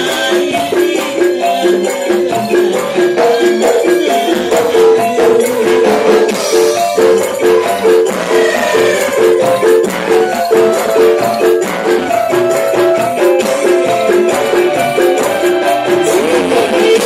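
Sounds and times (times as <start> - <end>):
metallophones playing melody: 0.0 - 17.0
sharp percussion strokes: 0.0 - 17.0.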